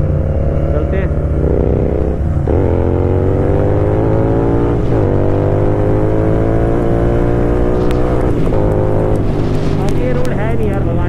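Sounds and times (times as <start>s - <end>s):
motorcycle engine accelerating hard: 0.0s - 11.0s.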